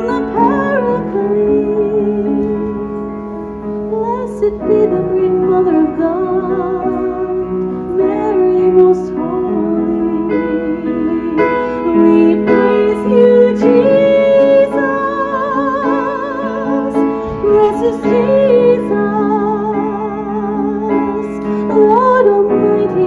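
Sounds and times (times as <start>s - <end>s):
woman singing with vibrato: 0.0s - 2.8s, 3.9s - 23.0s
piano accompaniment: 0.0s - 23.0s.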